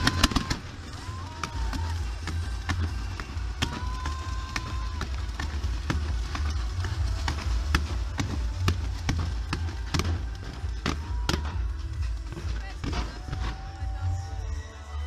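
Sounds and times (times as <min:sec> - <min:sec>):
firework whistle: 0:00.0 - 0:12.1
low rumble: 0:00.0 - 0:14.6
fireworks bangs and crackles: 0:00.0 - 0:14.7.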